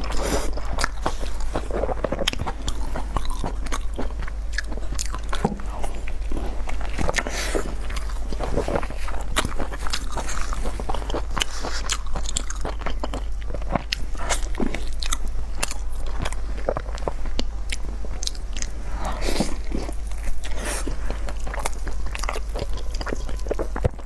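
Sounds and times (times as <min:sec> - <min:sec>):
person biting and chewing food: 0:00.0 - 0:24.0
steady low hum: 0:00.0 - 0:24.0.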